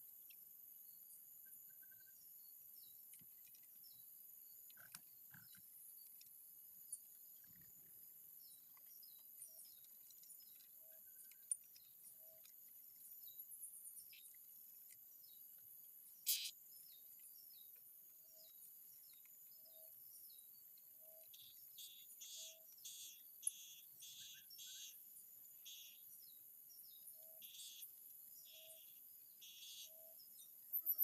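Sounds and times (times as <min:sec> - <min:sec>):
high drone of insects: 0:00.0 - 0:31.0.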